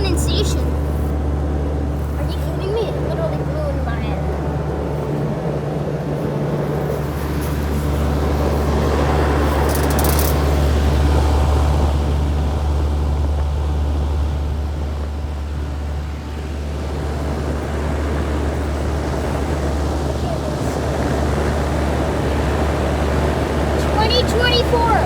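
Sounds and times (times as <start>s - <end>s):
compressor humming: 0.0s - 25.0s
fan air rushing: 0.0s - 25.0s.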